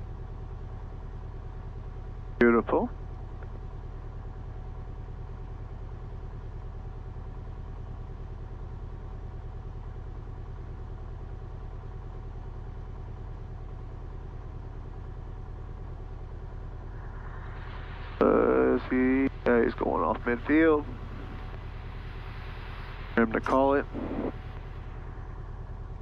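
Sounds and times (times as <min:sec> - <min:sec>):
propeller plane engine idling: 0:00.0 - 0:26.0.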